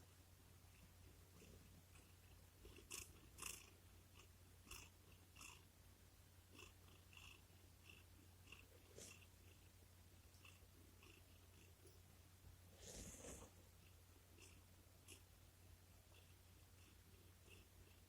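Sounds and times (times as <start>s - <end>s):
cat purring: 0.6s - 5.7s, 6.4s - 12.0s, 12.7s - 18.0s.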